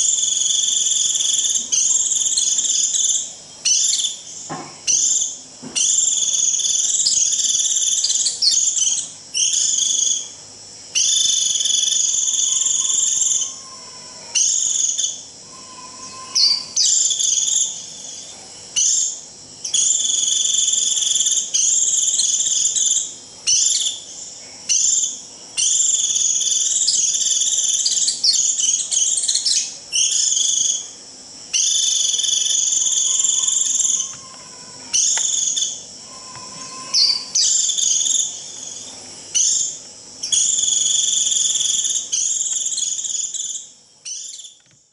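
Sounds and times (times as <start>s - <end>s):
bird buzzy high calls: 0.0s - 44.9s.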